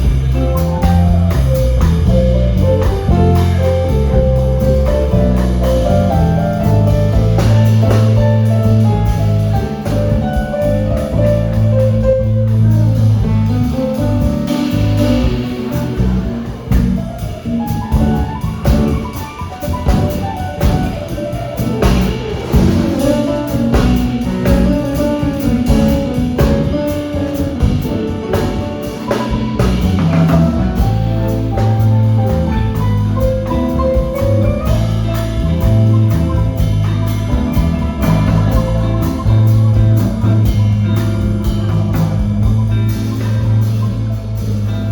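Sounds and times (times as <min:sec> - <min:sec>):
drum kit strokes: 0:00.0 - 0:44.9
jazz band playing: 0:00.0 - 0:44.9.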